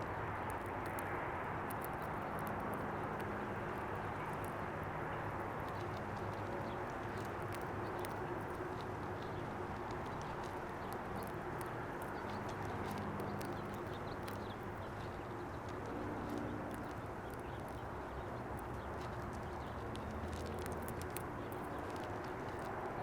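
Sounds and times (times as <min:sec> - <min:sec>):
pecking and cracking seed: 0:00.0 - 0:23.0
steady outdoor rumble: 0:00.0 - 0:23.0.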